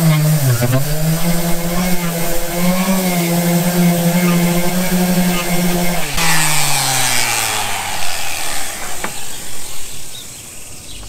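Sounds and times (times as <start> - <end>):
sander motor spinning down: 0.0 - 11.0.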